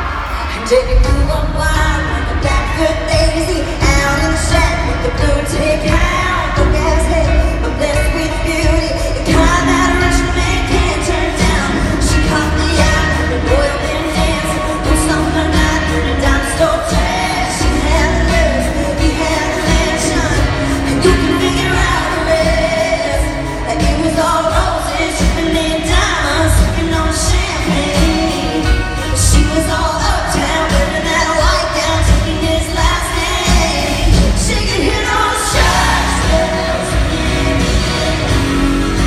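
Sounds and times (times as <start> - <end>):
country band playing: 0.0 - 39.0
woman singing: 0.0 - 39.0.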